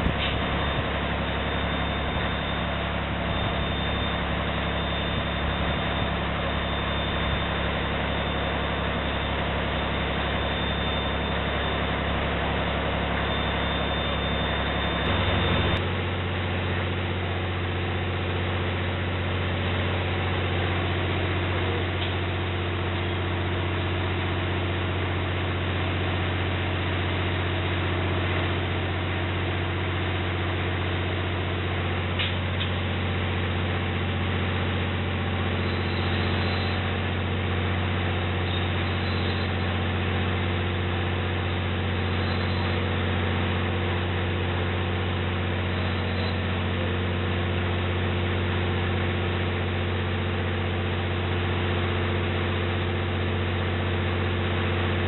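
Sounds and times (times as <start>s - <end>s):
heavy diesel engines idling: 0.0s - 55.0s.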